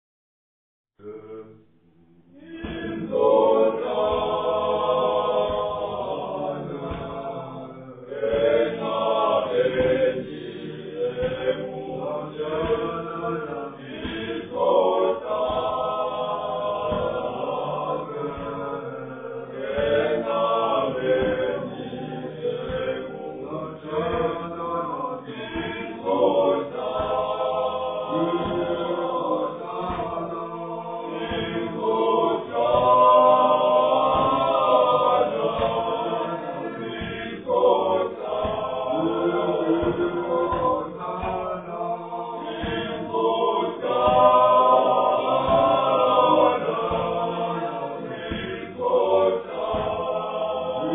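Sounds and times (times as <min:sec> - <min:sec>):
men's choir singing a cappella: 0:02.3 - 0:50.9.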